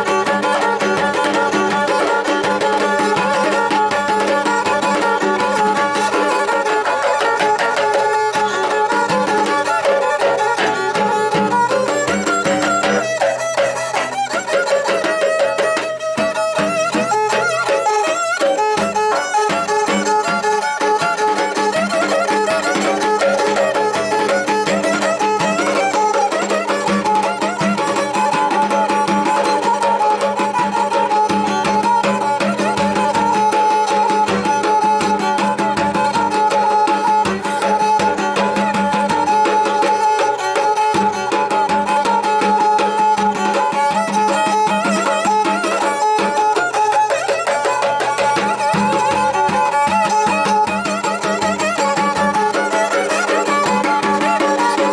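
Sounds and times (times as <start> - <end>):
bowed fiddle melody: 0.0 - 54.9.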